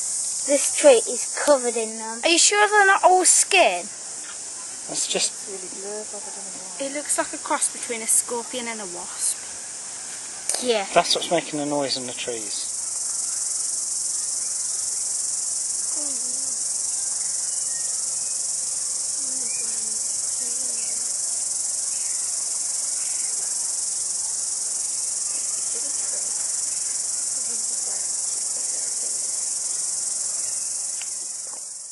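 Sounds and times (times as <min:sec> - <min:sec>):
cicadas buzzing: 0:00.0 - 0:31.9.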